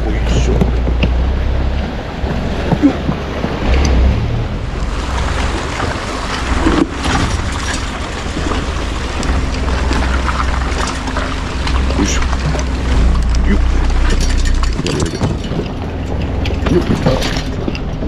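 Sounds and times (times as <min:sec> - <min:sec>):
sea waves washing: 0:00.0 - 0:18.0
wind rumbling on microphone: 0:00.0 - 0:18.0.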